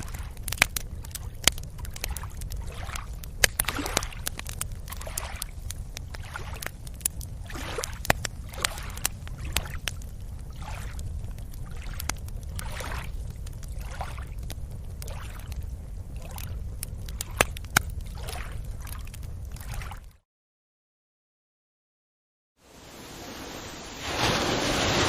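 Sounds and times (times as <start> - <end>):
water swishing: 0.0 - 20.2, 22.7 - 25.0.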